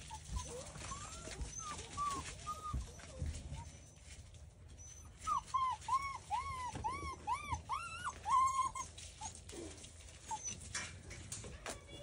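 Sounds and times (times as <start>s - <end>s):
puppy whining: 0.0s - 11.0s
faint rustles: 0.0s - 12.0s.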